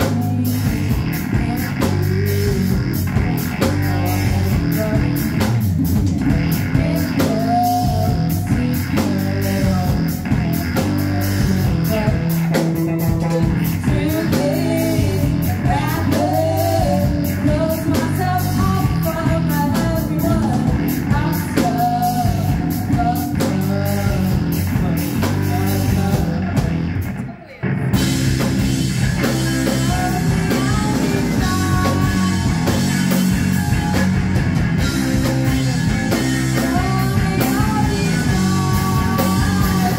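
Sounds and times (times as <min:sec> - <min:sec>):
woman singing: 0:00.0 - 0:05.5, 0:06.4 - 0:12.6, 0:13.2 - 0:27.6, 0:29.6 - 0:33.8, 0:35.4 - 0:39.9
bass guitar: 0:00.0 - 0:39.9
drum kit: 0:00.0 - 0:39.9
electric guitar: 0:00.0 - 0:39.9.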